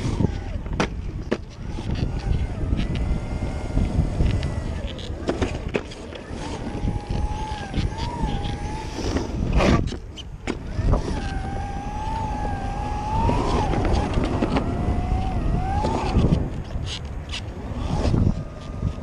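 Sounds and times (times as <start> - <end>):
electric motor whine: 0.0 - 19.0
wheels rumbling on concrete: 0.0 - 19.0.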